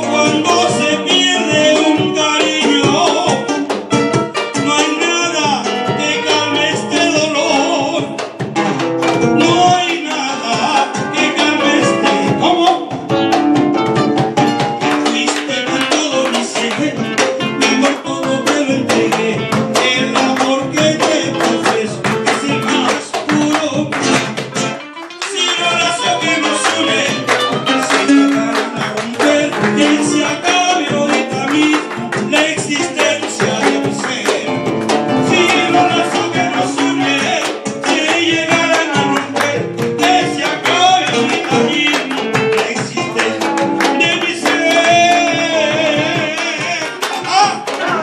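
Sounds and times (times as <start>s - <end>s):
man singing into microphone: 0.0s - 13.4s, 14.8s - 48.0s
acoustic guitar: 0.0s - 48.0s
sharp percussive strikes: 0.0s - 48.0s.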